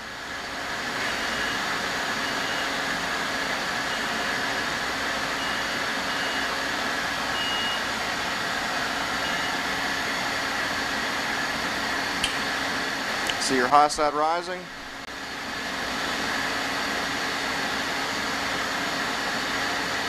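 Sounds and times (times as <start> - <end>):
charging machine whirring hiss: 0.0 - 20.0.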